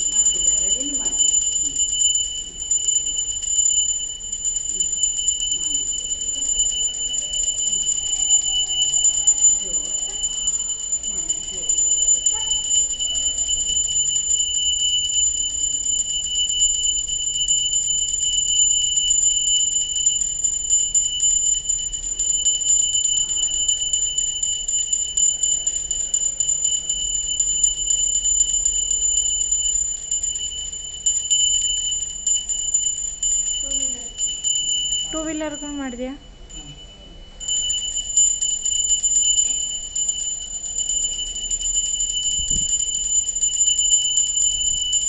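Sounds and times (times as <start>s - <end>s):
hand bell ringing rapidly: 0.0s - 45.0s.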